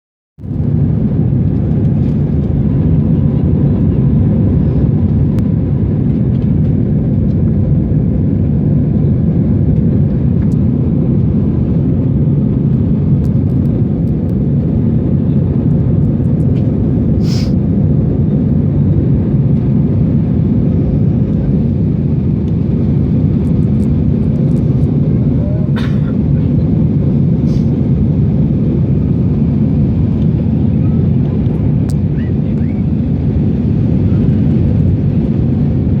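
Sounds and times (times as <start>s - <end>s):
aeroplane low rumble: 0.4s - 36.0s.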